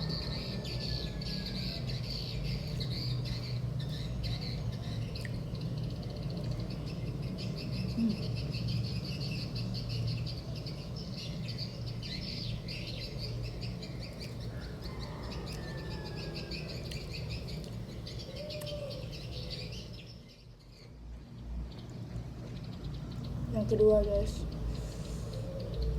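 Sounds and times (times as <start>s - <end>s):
small birds twittering: 0.0s - 25.9s.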